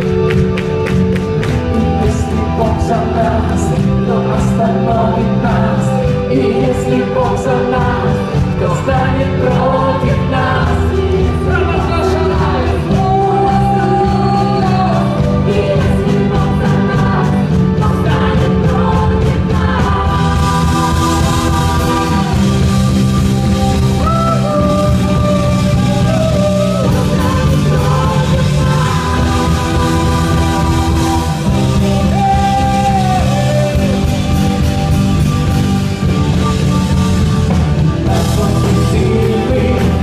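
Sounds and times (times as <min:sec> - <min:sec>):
bass guitar: 0:00.0 - 0:40.0
drum kit: 0:00.0 - 0:40.0
electric guitar: 0:00.0 - 0:40.0
keyboard: 0:00.0 - 0:40.0
person singing: 0:01.4 - 0:35.0, 0:38.0 - 0:40.0.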